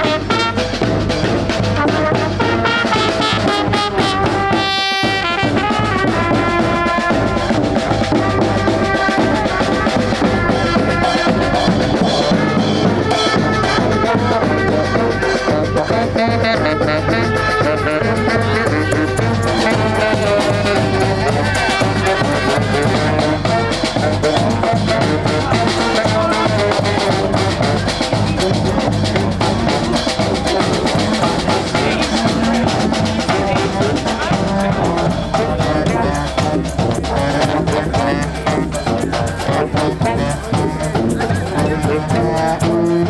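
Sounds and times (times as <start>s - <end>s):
brass band playing: 0.0s - 43.0s.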